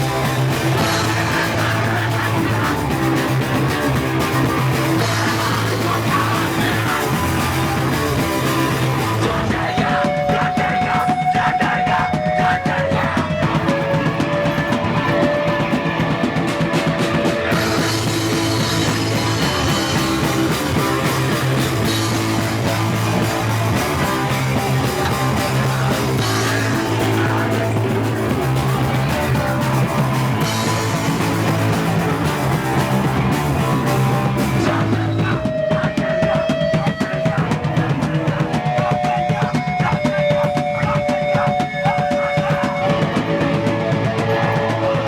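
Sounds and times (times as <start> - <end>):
distorted electric guitar: 0.0 - 45.0
punk band playing live: 0.0 - 45.0.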